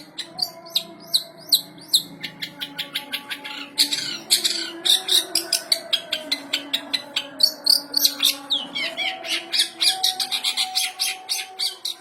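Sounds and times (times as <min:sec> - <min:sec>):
shrike singing harsh chirps: 0:00.0 - 0:12.0.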